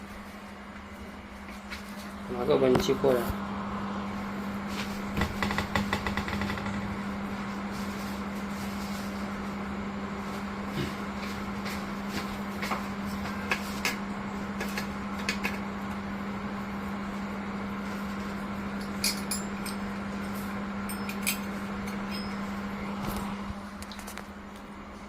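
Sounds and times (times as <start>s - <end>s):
fans and pump humming: 0.0s - 25.0s.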